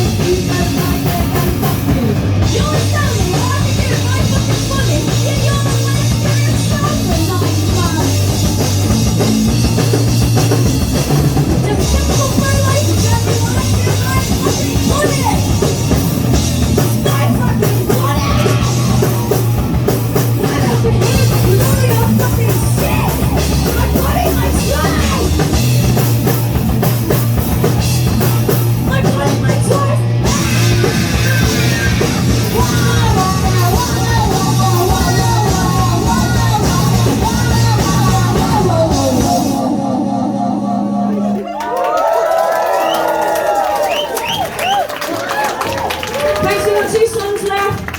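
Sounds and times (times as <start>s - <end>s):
drum kit pounding: 0.0s - 40.2s
punk band playing live: 0.0s - 47.9s.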